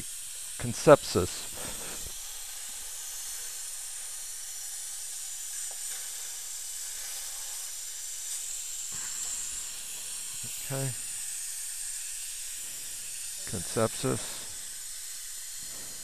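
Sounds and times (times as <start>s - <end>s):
dental suction: 0.0s - 16.0s
dental syringe spraying hiss: 0.0s - 16.0s.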